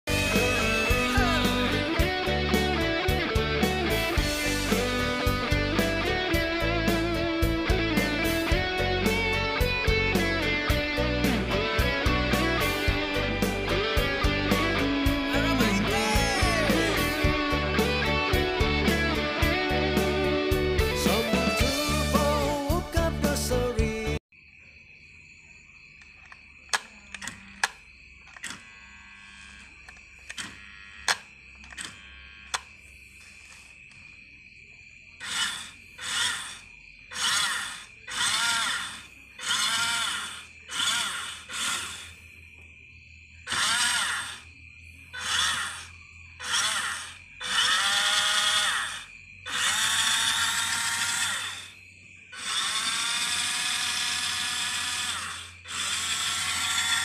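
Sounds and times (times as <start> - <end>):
electric motor and gears whining: 0.1 - 22.1, 27.2 - 33.8, 35.2 - 42.2, 43.4 - 44.6, 45.2 - 57.0.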